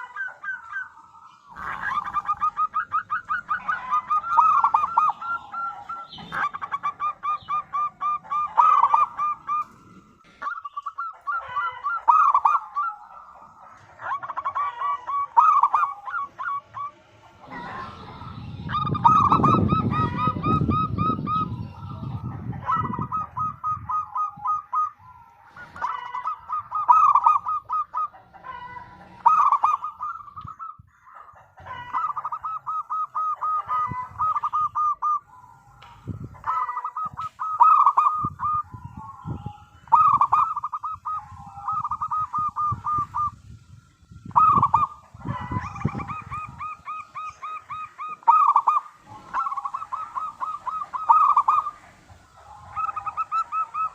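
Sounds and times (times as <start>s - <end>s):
dove cooing: 0.0s - 43.6s, 44.2s - 53.9s.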